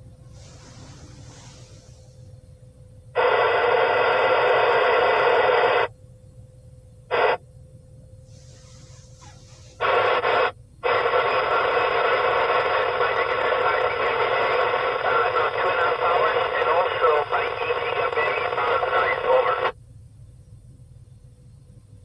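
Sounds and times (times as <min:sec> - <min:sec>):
radio static hiss bursts: 0:00.0 - 0:06.0, 0:07.0 - 0:07.4, 0:08.2 - 0:19.8.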